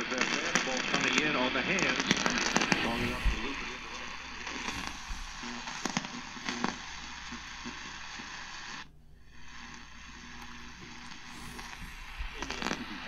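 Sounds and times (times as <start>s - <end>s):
radio static hiss: 0.0s - 13.0s
static crackles: 0.0s - 13.0s.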